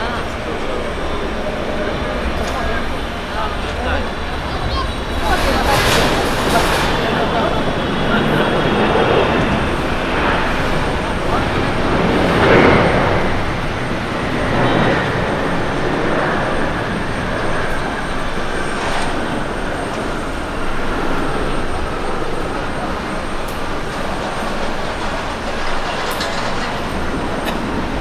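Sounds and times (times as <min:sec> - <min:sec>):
jet airliner roar: 0:00.0 - 0:28.0.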